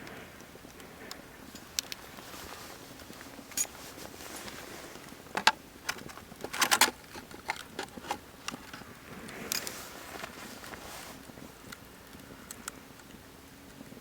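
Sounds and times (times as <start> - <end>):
faint hiss: 0.0 - 14.0
wood fire crackling: 0.0 - 14.0.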